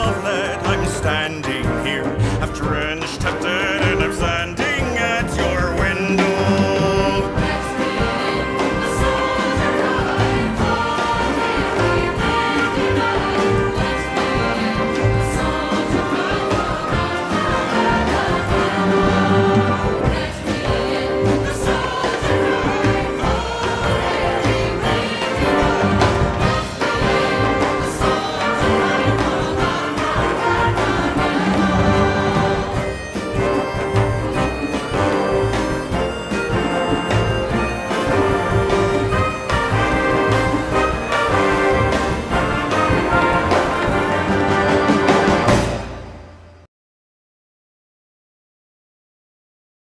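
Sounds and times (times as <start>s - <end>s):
choir singing: 0.0s - 46.5s
folk instrumental accompaniment: 0.0s - 46.6s.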